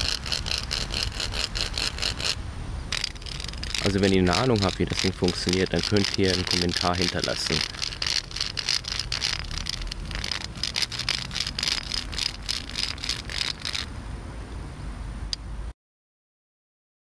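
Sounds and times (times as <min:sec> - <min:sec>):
stick rasping over wooden notches: 0:00.0 - 0:13.9.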